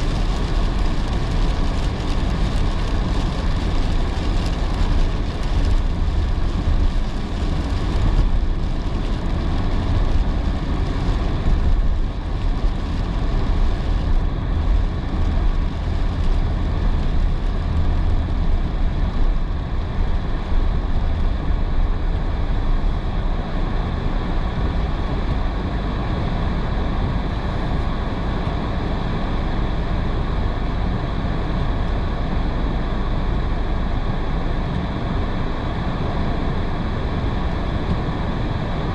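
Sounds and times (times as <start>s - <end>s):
tyres rumbling on wet road: 0.0s - 38.9s.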